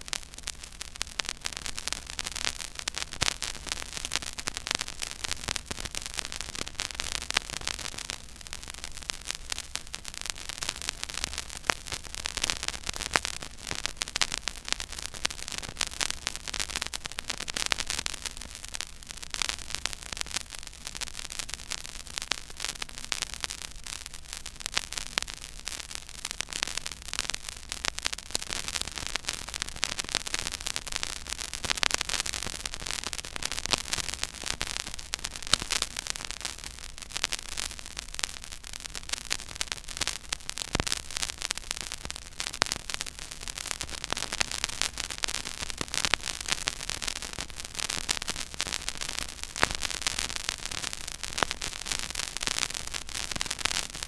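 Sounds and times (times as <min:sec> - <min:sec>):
vinyl surface hiss and crackle: 0:00.0 - 0:54.0.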